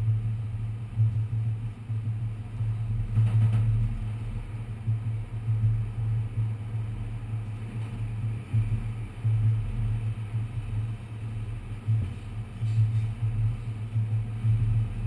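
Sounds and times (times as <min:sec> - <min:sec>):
subway car rumble: 0:00.0 - 0:15.0.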